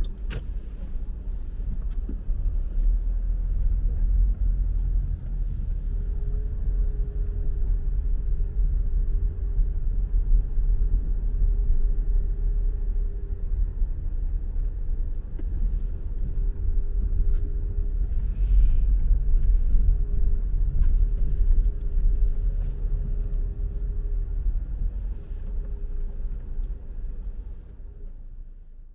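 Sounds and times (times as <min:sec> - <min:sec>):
car road and engine rumble: 0:00.0 - 0:28.9
faint steady hum: 0:00.0 - 0:28.9.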